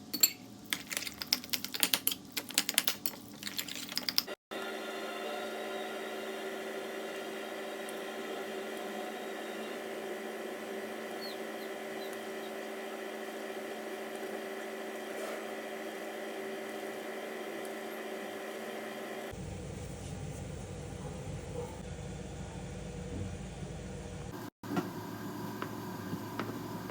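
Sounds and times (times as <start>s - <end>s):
electrical motor hum: 4.2s - 26.9s.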